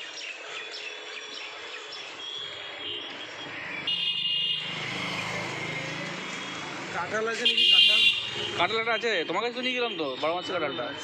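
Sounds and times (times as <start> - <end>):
birds chirping: 0.0 - 11.0
outdoor background noise: 0.0 - 11.0.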